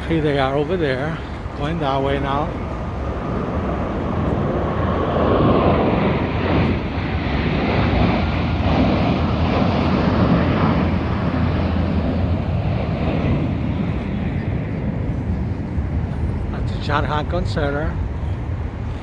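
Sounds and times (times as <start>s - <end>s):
jet aircraft roaring past: 0.0s - 19.0s.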